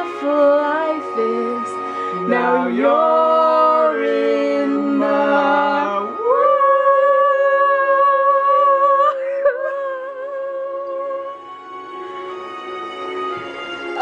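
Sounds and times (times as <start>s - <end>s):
women singing a cappella: 0.0s - 11.5s.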